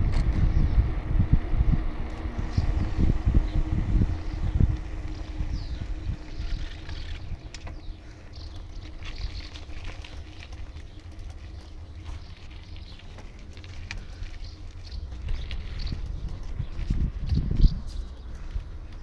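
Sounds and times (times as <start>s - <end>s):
bicycle rolling on asphalt: 0.0s - 19.0s
wind and road noise: 0.0s - 19.0s.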